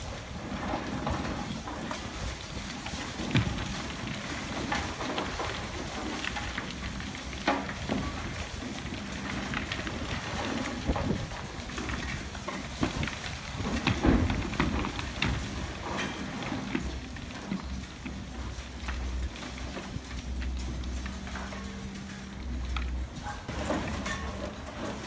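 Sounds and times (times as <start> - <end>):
concrete cracking and rubble falling: 0.0 - 25.0
excavator engine running: 3.1 - 25.0.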